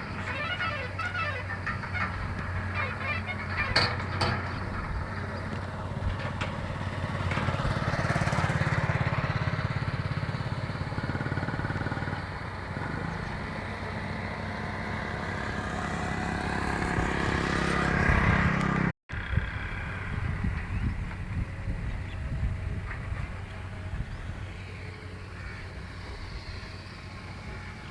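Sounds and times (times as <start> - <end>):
small vehicle engine running: 0.0 - 27.9.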